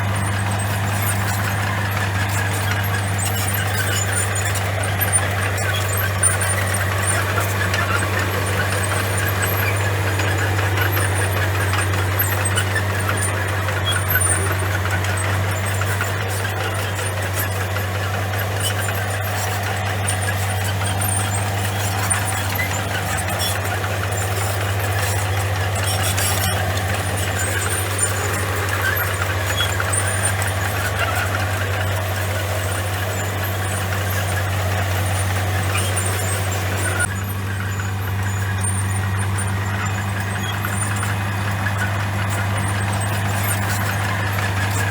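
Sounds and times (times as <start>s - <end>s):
bulldozer diesel engine running: 0.0s - 44.9s
clicks and rattles: 0.0s - 44.9s.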